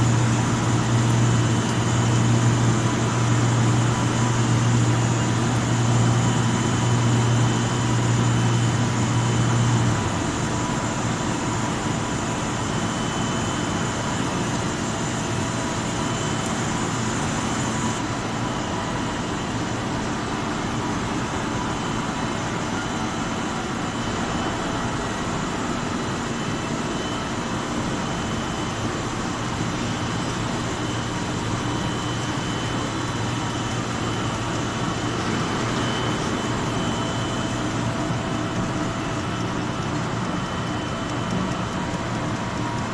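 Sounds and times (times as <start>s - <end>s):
low machine hum: 0.0s - 42.9s
thin steady whine: 0.0s - 42.9s.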